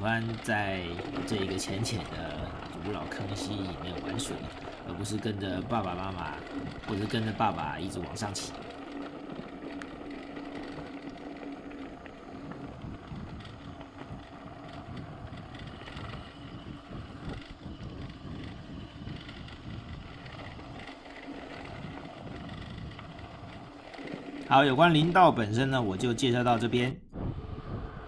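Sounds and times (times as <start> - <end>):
low hum: 0.0 - 28.0
steady rumbling noise: 0.0 - 28.0
wind buffeting microphone: 0.0 - 28.0.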